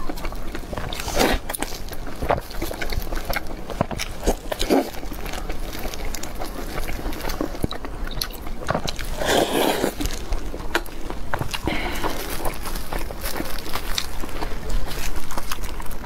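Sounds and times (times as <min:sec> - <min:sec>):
person chewing soft bread: 0:00.0 - 0:16.0.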